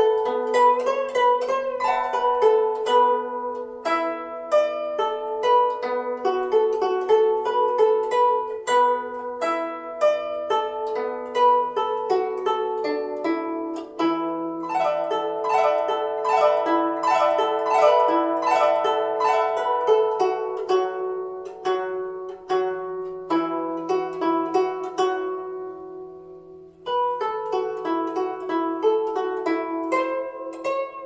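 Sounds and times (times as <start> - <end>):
plucked zither notes: 0.0 - 31.0.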